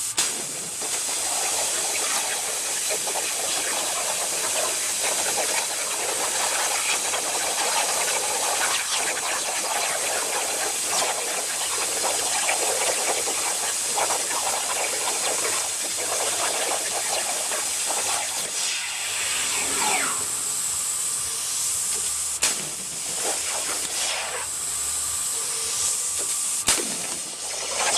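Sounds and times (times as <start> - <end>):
plasma cutter arc hissing: 0.0 - 27.9.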